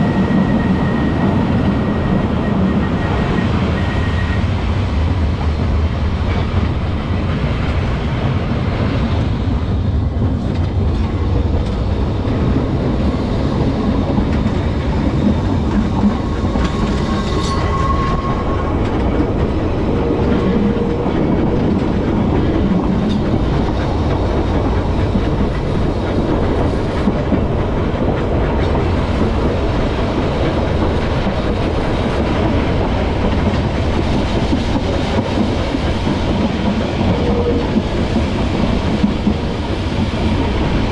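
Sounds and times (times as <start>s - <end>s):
tram wheels rumbling on rails: 0.0s - 40.9s.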